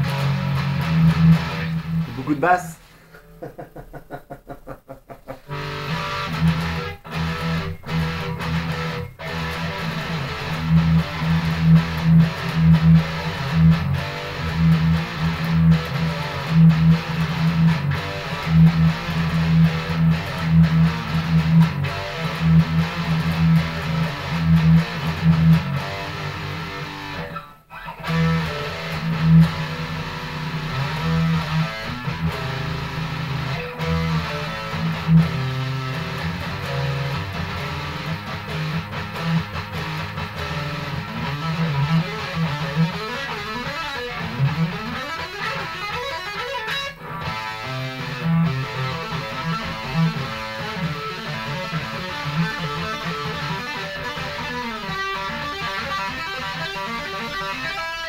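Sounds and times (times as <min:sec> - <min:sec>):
distorted electric guitar riffing: 0:00.0 - 0:04.4, 0:05.2 - 0:58.0.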